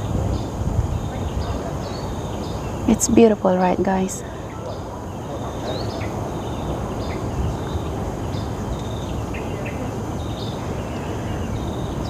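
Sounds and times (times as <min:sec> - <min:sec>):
birds chirping: 0:00.0 - 0:12.0
low rumbling noise: 0:00.0 - 0:12.0.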